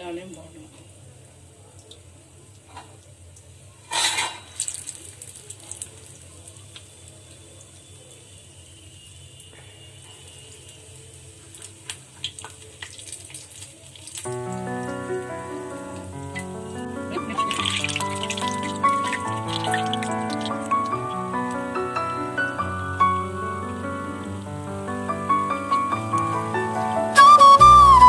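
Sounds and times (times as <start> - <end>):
batter sizzling in hot oil: 0.0 - 27.2
loud burst of sizzling: 3.7 - 28.0.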